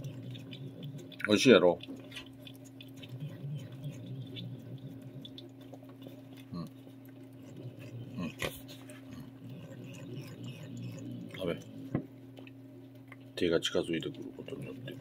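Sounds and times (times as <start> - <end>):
cat licking and smacking: 0.0 - 13.3
steady low hum: 0.0 - 15.0.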